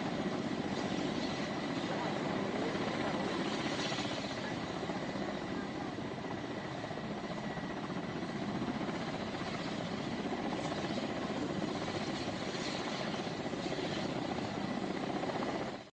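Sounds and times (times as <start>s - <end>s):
helicopter running: 0.0s - 15.9s.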